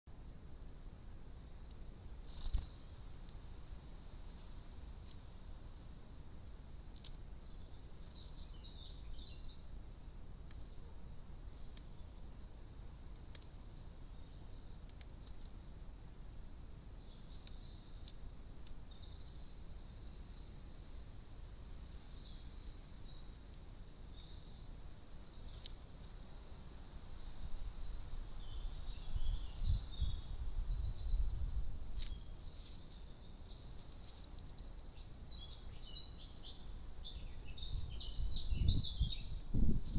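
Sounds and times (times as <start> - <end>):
faint steady hiss: 0.1 - 39.9.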